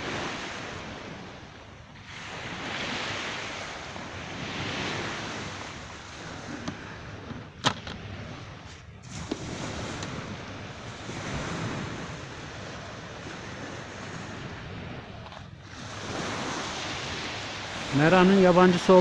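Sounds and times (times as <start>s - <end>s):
sea waves rushing: 0.0s - 19.0s
wind buffeting microphone: 0.0s - 19.0s.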